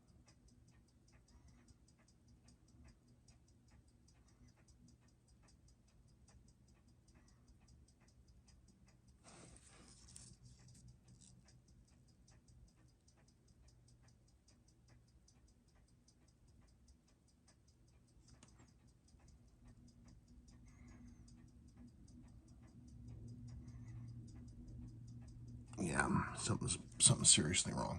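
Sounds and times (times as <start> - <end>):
watch movement ticking: 0.0 - 27.9.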